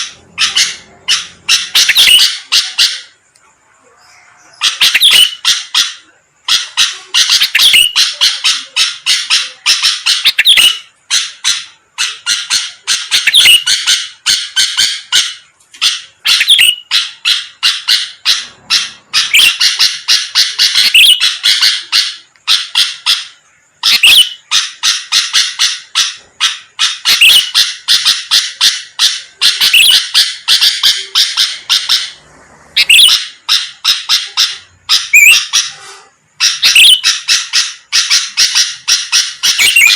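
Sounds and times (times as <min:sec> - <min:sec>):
bird singing chattering notes: 0:00.0 - 0:03.3, 0:04.2 - 0:39.9.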